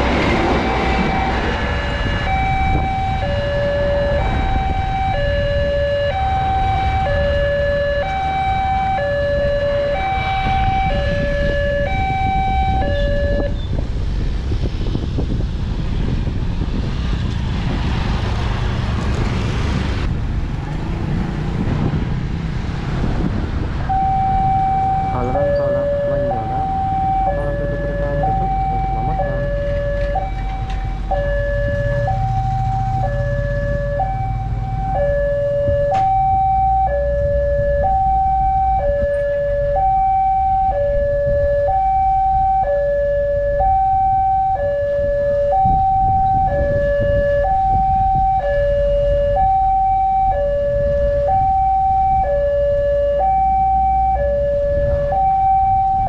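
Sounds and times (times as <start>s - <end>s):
motorcycle engines rumbling: 0.0s - 56.0s
level crossing two-tone alarm: 0.5s - 13.6s, 23.9s - 56.0s.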